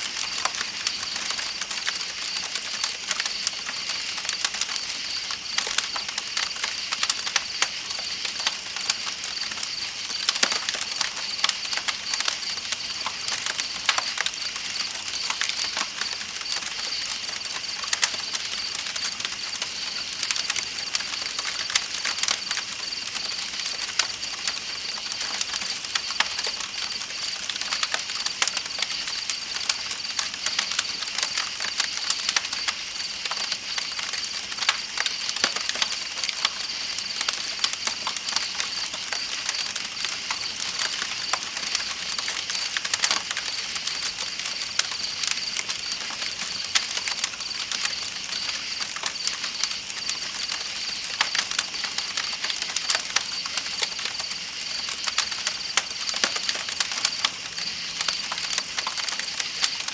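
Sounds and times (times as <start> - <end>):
night insects chorus: 0.0 - 59.9
campfire crackling and popping: 0.1 - 59.9.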